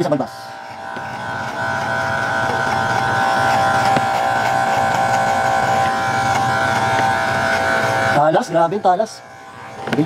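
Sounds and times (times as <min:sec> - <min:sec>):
electric hair clipper buzzing: 0:00.0 - 0:10.0.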